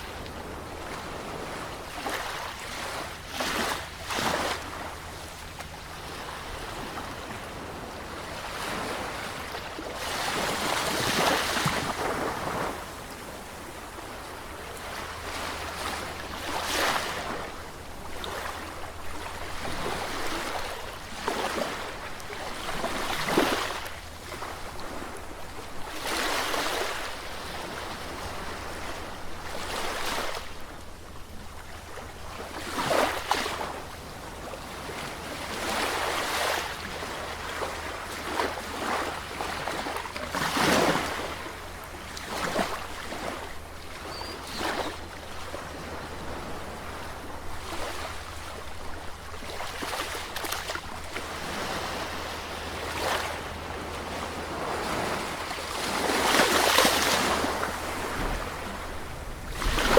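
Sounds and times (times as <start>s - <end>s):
sea waves breaking: 0.0s - 30.6s, 32.3s - 59.9s.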